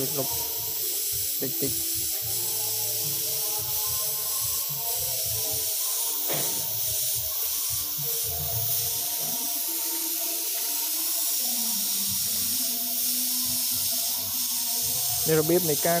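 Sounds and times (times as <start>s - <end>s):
spray gun hissing: 0.0s - 16.0s.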